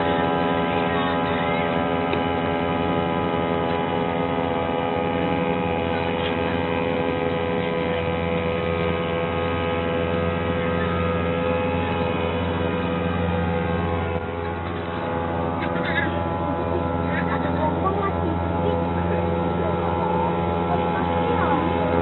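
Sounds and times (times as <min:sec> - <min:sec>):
small engine running steadily: 0:00.0 - 0:22.0.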